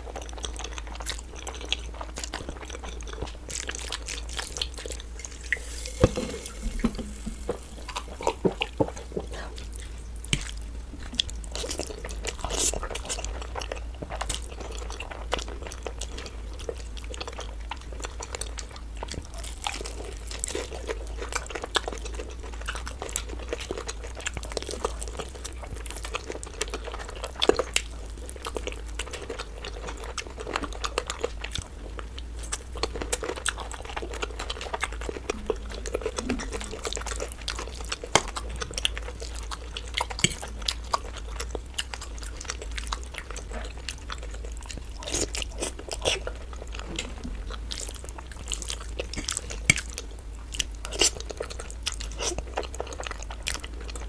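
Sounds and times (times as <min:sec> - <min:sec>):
chewing with mouth clicks: 0:00.0 - 0:54.0
steady low hum: 0:00.0 - 0:54.0.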